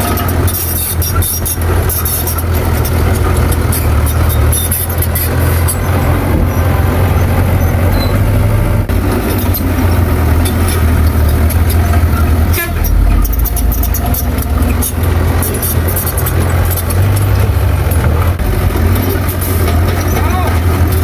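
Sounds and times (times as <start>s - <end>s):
metallic clicks and clanks: 0.0s - 6.0s, 9.1s - 21.0s
diesel machinery engine drone: 0.0s - 21.0s.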